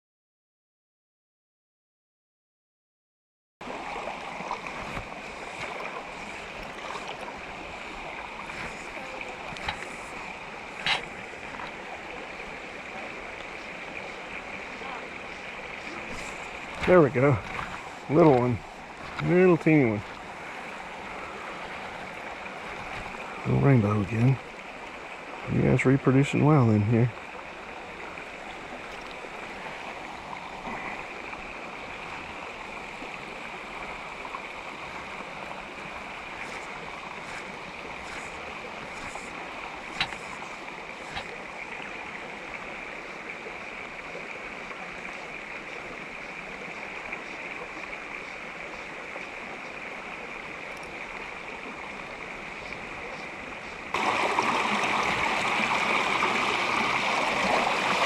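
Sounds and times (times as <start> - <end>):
stream rushing over rocks: 3.6 - 58.0.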